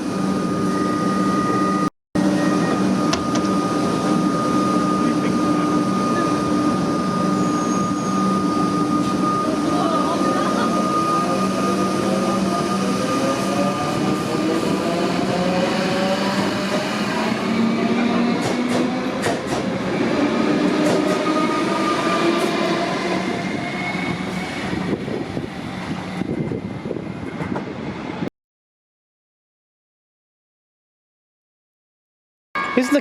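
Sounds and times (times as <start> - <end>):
train passing with whining motors: 0.0 - 28.3.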